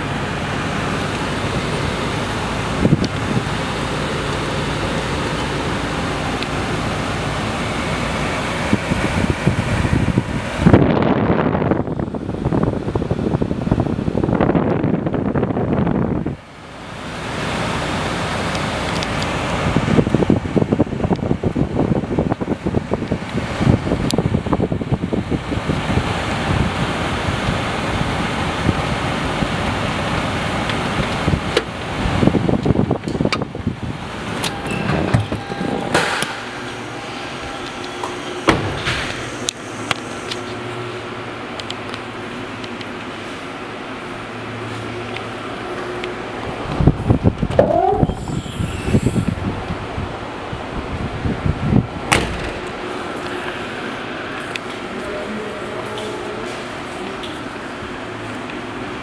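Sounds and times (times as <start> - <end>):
loud steady rushing noise: 0.0 - 59.0
low rumbling buffets: 0.0 - 59.0.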